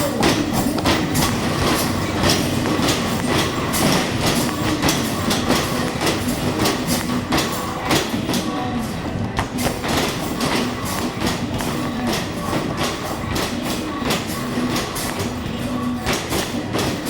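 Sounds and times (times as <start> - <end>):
basketballs striking and bouncing: 0.0 - 17.0
continuous rumbling clatter: 0.0 - 17.0.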